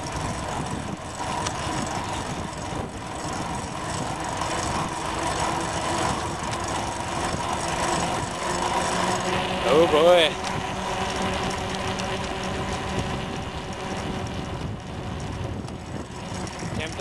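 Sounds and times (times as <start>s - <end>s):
faint even hum: 0.0s - 16.9s
tyre and wind noise: 0.0s - 17.0s.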